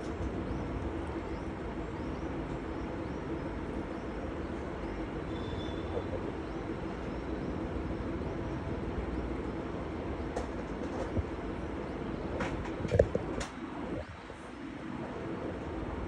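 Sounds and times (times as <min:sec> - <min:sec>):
low rumble and hiss: 0:00.0 - 0:16.0.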